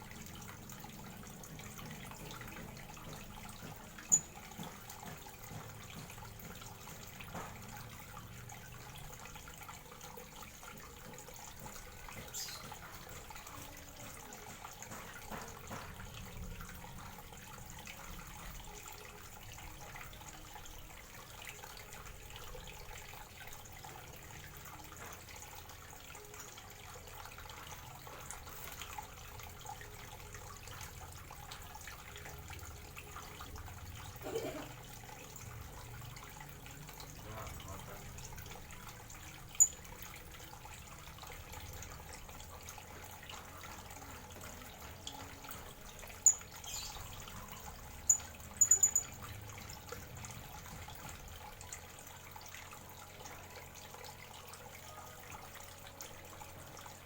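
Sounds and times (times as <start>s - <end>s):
faint trickle of running water: 0.0s - 57.0s.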